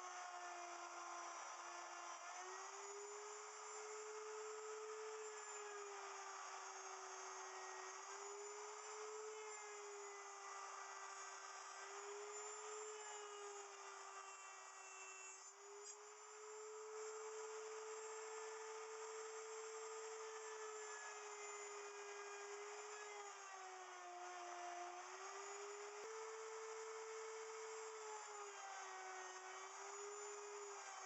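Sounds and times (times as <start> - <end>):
wood router cutting: 0.0 - 31.0.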